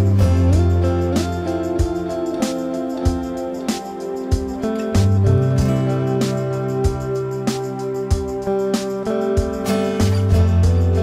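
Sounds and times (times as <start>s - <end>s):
instrumental music plucked notes: 0.0s - 11.0s.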